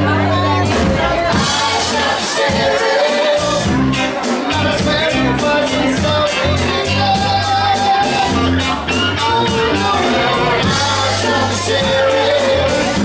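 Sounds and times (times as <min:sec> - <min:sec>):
bass guitar notes: 0:00.0 - 0:13.0
drums: 0:00.0 - 0:13.0
electric guitars: 0:00.0 - 0:13.0
person singing: 0:00.0 - 0:13.0.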